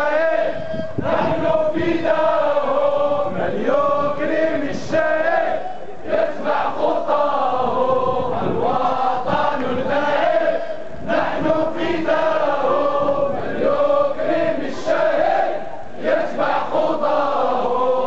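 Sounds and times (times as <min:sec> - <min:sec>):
crowd chanting slogans: 0:00.0 - 0:18.0.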